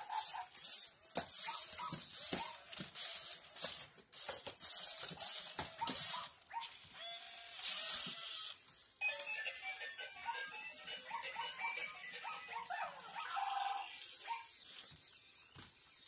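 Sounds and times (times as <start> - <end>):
toy robot motors whirring: 0.0 - 16.0.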